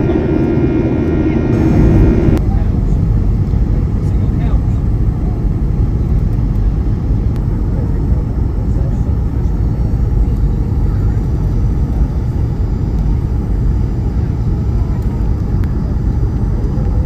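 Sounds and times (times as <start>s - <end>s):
jet engines and airflow rumble: 0.0s - 17.0s.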